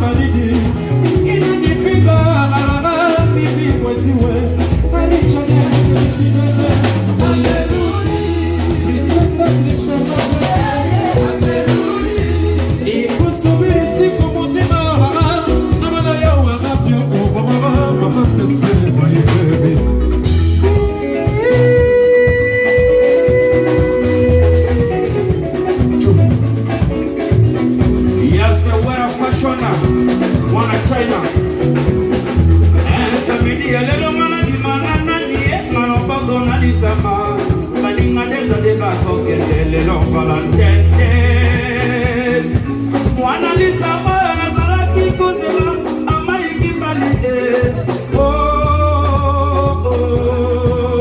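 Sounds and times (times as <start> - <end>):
band playing rhumba: 0.0 - 51.0
person singing: 0.0 - 51.0.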